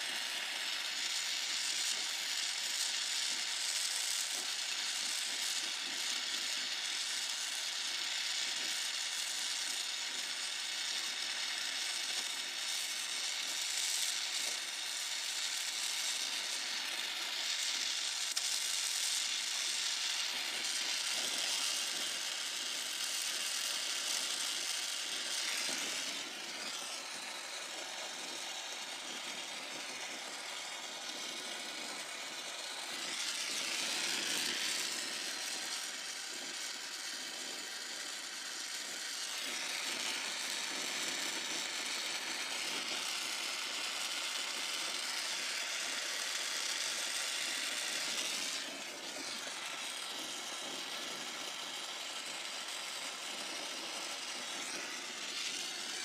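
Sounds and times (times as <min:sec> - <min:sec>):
brazing torch flame hissing: 0:00.0 - 0:56.0.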